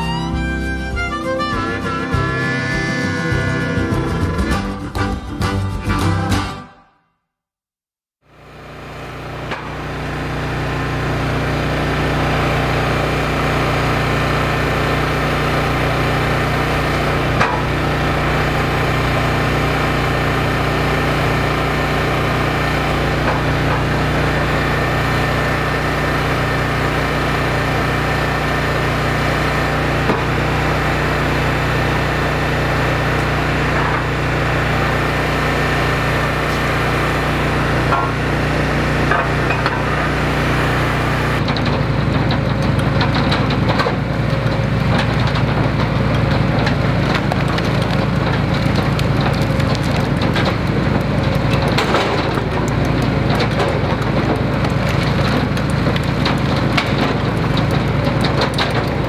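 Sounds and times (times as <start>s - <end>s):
log splitter engine running: 0.0s - 5.5s, 8.3s - 59.0s.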